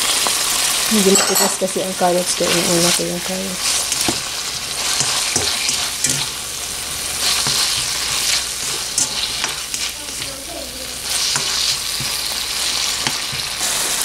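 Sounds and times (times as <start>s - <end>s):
food sizzling in hot oil: 0.0s - 14.0s
spoon scraping and knocking pan: 1.0s - 6.4s, 7.1s - 10.4s, 11.0s - 13.9s.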